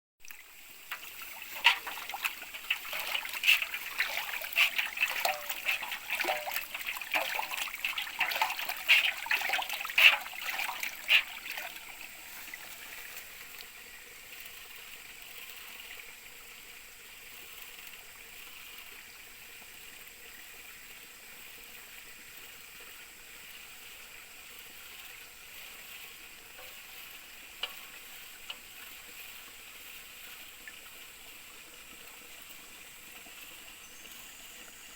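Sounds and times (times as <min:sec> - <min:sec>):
water sloshing in a pan: 0:00.2 - 0:19.6, 0:21.3 - 0:34.9
trickle of running water: 0:00.2 - 0:34.9.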